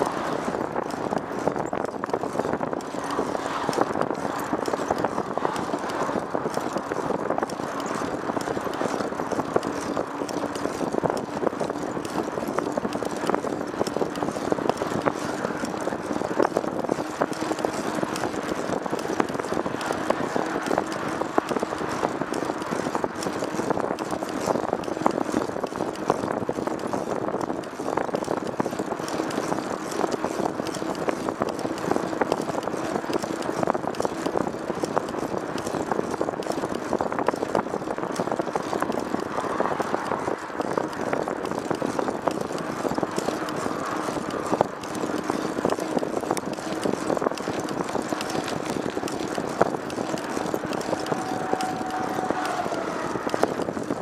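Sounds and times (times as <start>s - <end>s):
small rattles and clicks: 0.0s - 54.0s
vehicle running hum: 0.0s - 54.0s.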